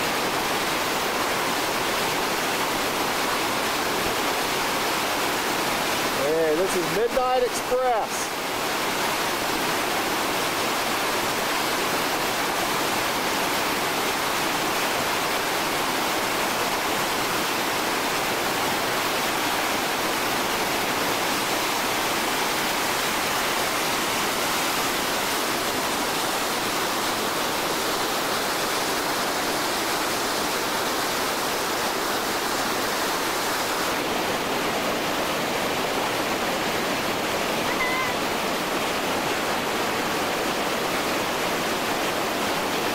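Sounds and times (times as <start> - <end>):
whitewater rapids roaring: 0.0 - 42.9.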